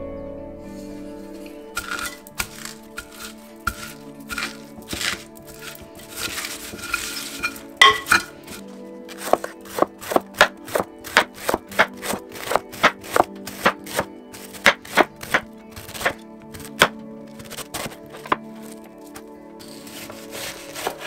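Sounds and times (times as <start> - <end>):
background music: 0.0 - 21.0
knife shredding cabbage on board: 1.8 - 18.8, 19.6 - 21.0.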